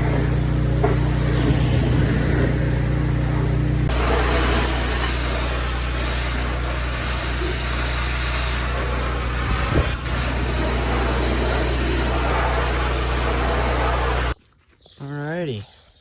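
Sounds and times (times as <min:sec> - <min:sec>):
engine running: 0:00.0 - 0:14.4
water spray hissing: 0:00.0 - 0:14.4.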